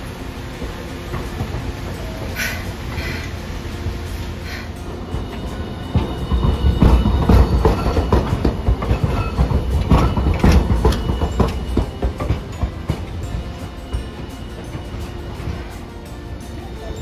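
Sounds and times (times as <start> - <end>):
tram low rumble: 0.0 - 17.0
tram wheels knocking over track: 0.0 - 17.0.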